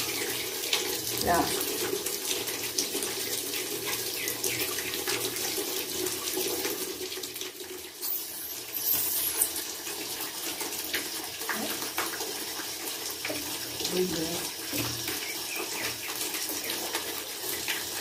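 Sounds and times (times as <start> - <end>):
water running from a tap: 0.0 - 18.0.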